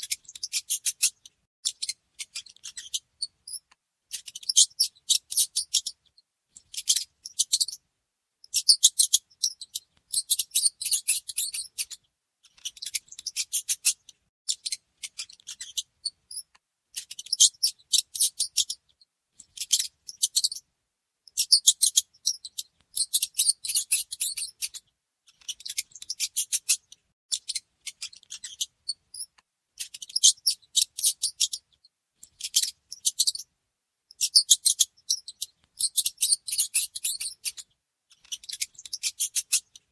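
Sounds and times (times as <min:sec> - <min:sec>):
mouse squeaking: 0:00.0 - 0:07.8, 0:08.4 - 0:20.6, 0:21.3 - 0:33.5, 0:34.1 - 0:39.9.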